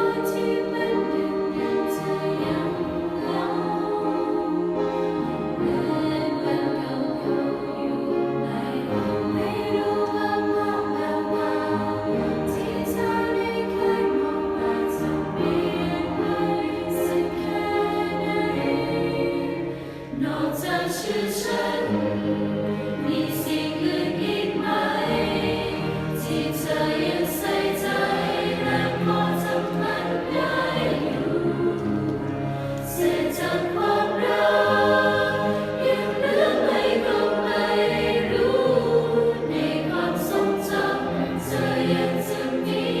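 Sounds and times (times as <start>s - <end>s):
choir singing: 0.0s - 43.0s.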